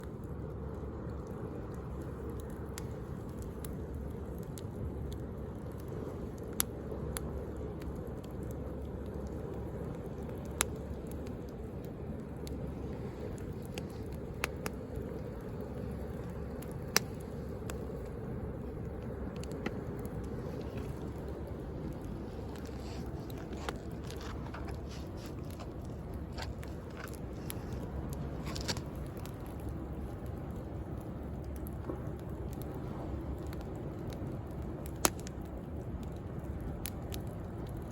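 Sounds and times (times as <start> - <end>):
bonfire crackling and popping: 0.0 - 37.9.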